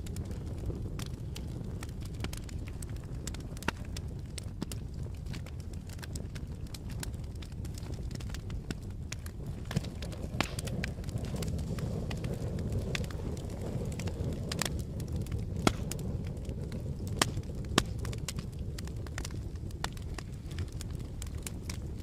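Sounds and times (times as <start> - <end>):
burning wood crackling and popping: 0.0 - 22.0
low rumble of flames: 0.0 - 22.0.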